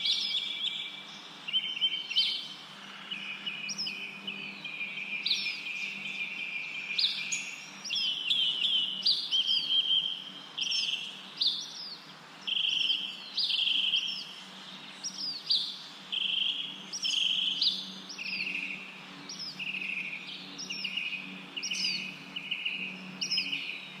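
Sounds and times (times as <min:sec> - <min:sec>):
birds calling: 0:00.0 - 0:24.0
faint steady hum: 0:00.0 - 0:24.0.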